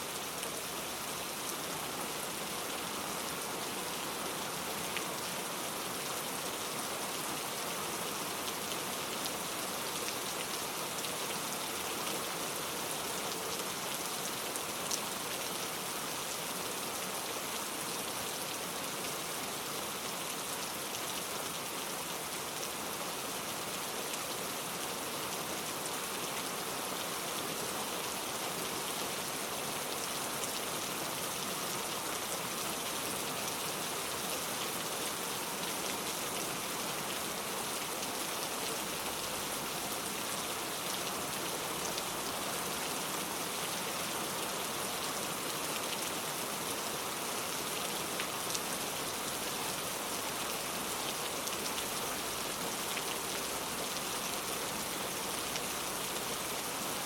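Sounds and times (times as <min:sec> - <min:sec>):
rain pattering on a surface: 0:00.1 - 0:57.0.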